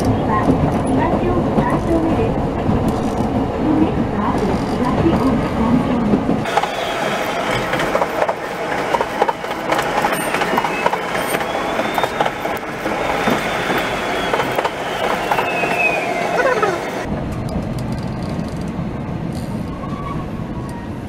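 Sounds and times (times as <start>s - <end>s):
tram running on rails: 0.0s - 21.0s.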